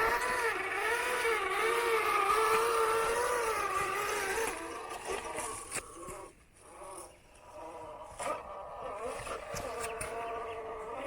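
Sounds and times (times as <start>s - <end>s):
toy truck electric motor whining: 0.0s - 11.0s.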